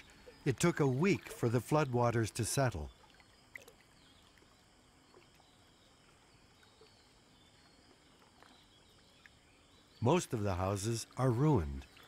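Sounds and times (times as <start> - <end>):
soft small water sounds: 0.0 - 12.0.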